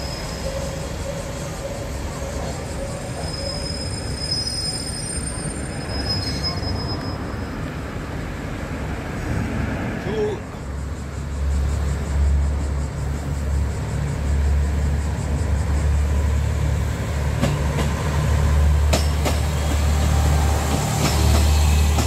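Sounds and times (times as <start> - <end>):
high squeal from train: 0.0 - 8.2, 10.2 - 22.0
diesel railcar engine rumble: 0.0 - 22.0.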